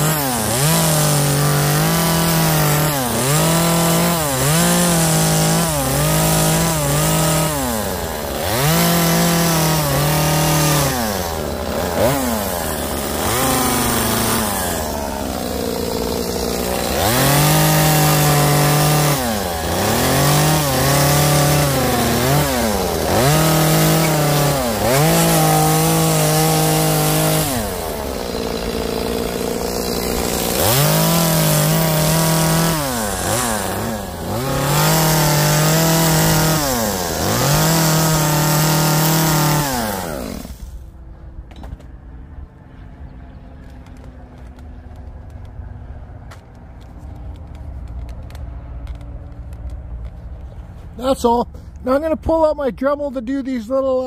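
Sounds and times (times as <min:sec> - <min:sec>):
chainsaw revving and idling: 0:00.0 - 0:40.9, 0:43.6 - 0:54.0.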